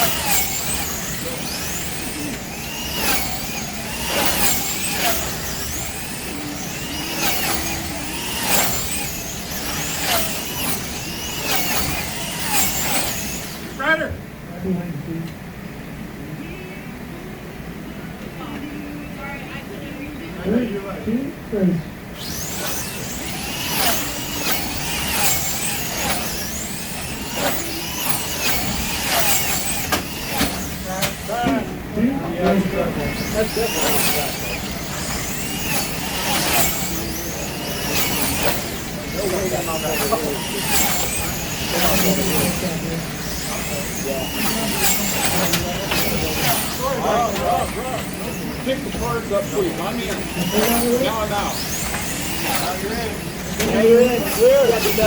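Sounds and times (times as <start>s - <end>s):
sharp clacks: 0.0s - 13.7s, 22.2s - 31.6s, 33.2s - 55.0s
slot car motors whining: 0.0s - 55.0s.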